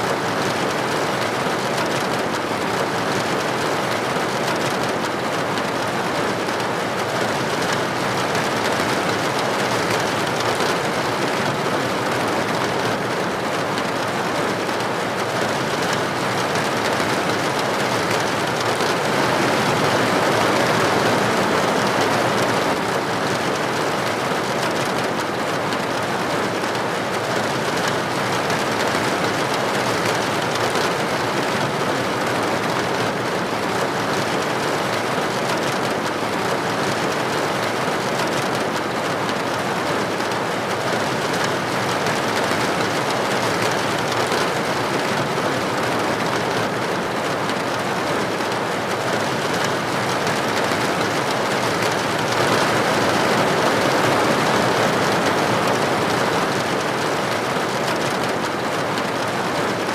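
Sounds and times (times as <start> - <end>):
rain on a window: 0.0 - 59.9.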